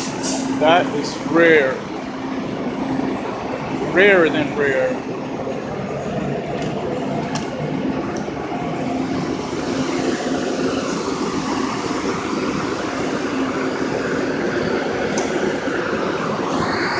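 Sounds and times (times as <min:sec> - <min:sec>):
heavy machinery rumble: 0:00.0 - 0:16.9.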